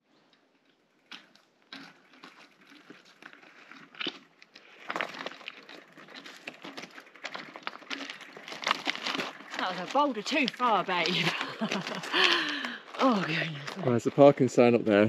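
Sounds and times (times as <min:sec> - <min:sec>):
bike tyres crunching over stones: 0:00.8 - 0:14.7
footsteps on loose stones: 0:01.8 - 0:14.7.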